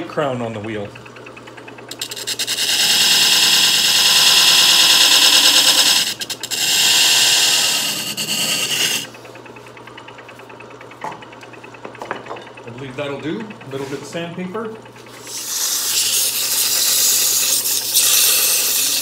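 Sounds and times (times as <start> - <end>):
chisel scraping spinning wheel: 0.0 - 10.2, 12.2 - 19.0
electric motor humming: 0.0 - 19.0.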